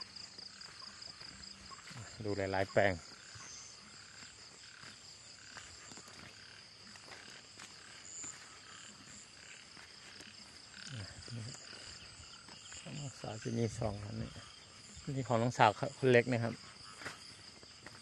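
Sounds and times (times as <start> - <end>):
frogs calling: 0.0 - 18.0.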